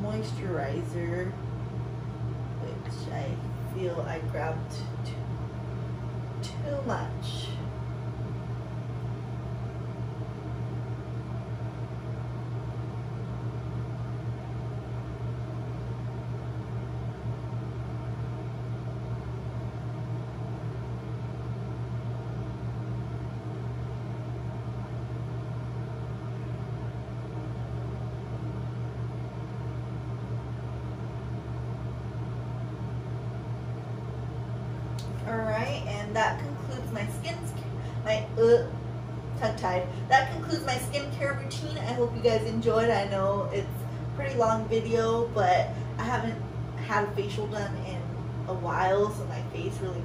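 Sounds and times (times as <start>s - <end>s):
exhaust fan humming: 0.0s - 50.0s.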